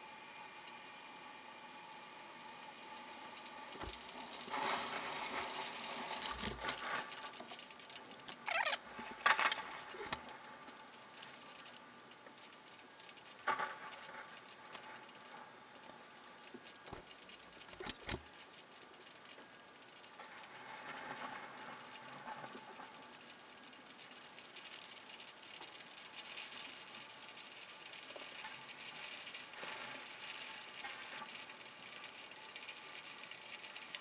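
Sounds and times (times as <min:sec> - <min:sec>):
rain pattering: 0:00.4 - 0:34.0.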